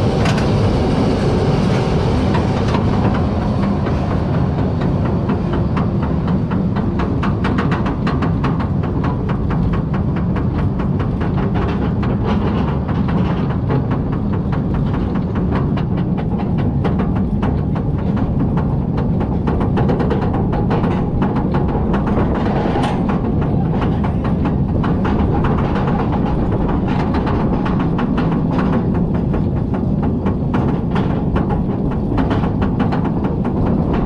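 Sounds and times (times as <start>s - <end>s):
lift chain rumble: 0.0s - 34.0s.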